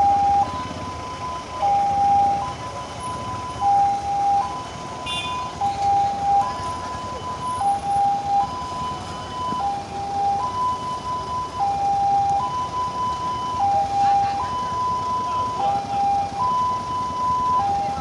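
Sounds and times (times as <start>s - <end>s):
ambulance siren two-tone wail: 0.0s - 18.0s.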